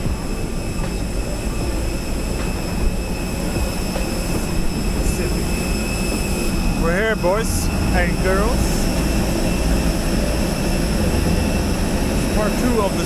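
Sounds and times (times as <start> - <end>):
jet engines and airflow rumble: 0.0 - 13.0.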